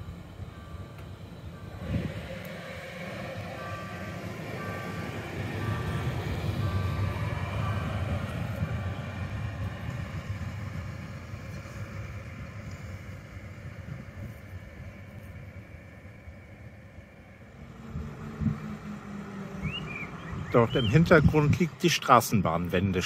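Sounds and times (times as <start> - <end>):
tram rumbling pulling away: 0.0 - 23.0.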